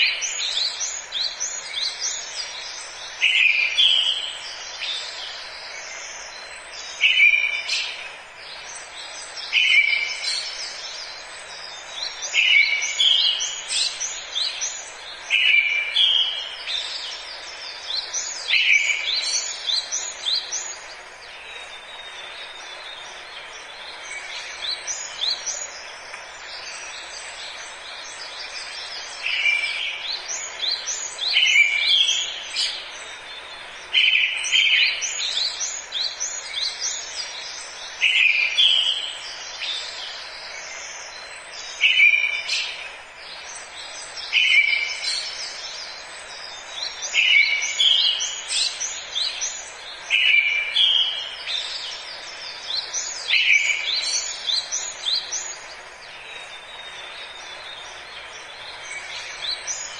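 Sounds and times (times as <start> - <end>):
birds chirping: 0.0 - 59.9
steady background hiss: 0.0 - 59.9.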